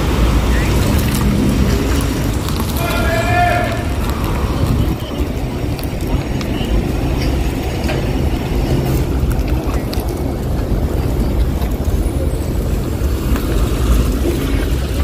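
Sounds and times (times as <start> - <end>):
suv engine low rumble: 0.0 - 15.0.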